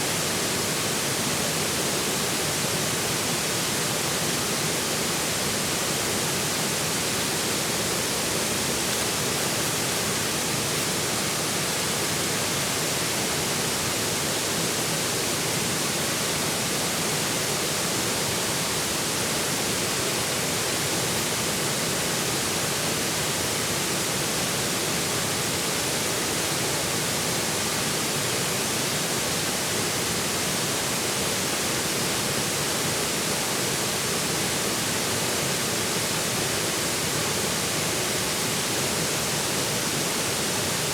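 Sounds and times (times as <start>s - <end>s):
river water rushing: 0.1s - 40.9s.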